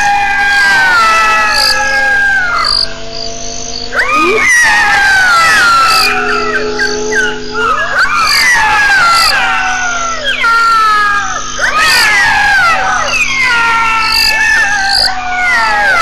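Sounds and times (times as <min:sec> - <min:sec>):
hyenas calling: 0:00.0 - 0:16.0.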